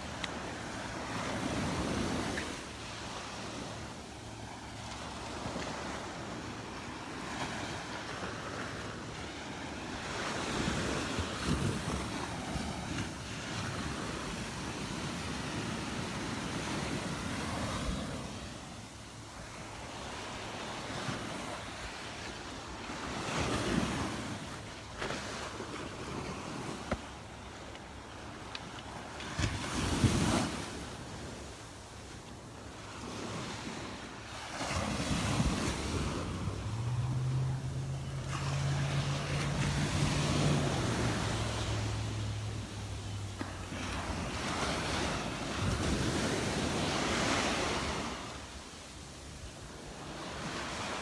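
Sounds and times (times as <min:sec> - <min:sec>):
surf washing onto beach: 0:00.0 - 0:51.0.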